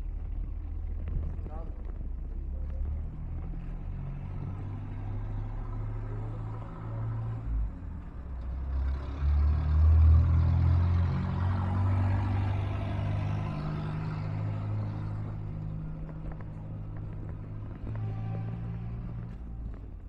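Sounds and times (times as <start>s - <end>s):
vehicle rumbling: 0.0s - 20.0s.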